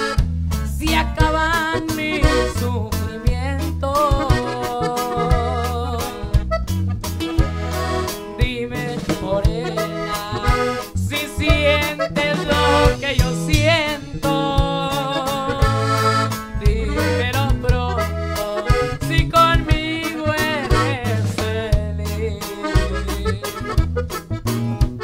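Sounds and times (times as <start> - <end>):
accordion melody: 0.0 - 25.0
bajo sexto: 0.0 - 25.0
low bass notes: 0.0 - 25.0
steady drum beat: 0.0 - 25.0.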